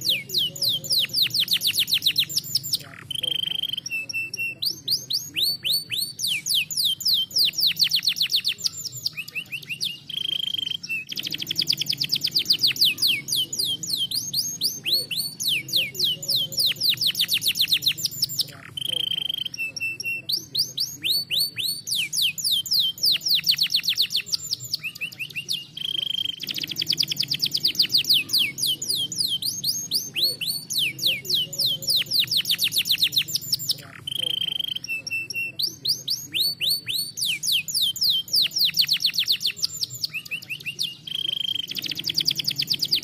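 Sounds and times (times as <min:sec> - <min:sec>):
canary singing trills: 0:00.0 - 0:43.0.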